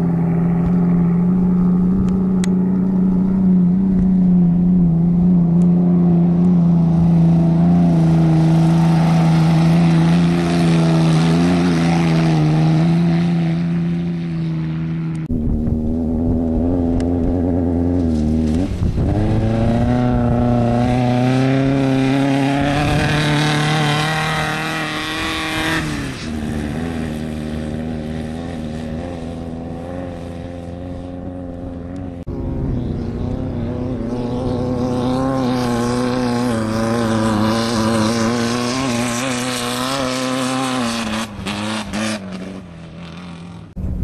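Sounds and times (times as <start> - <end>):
off-road vehicle engine revving: 0.0 - 43.8.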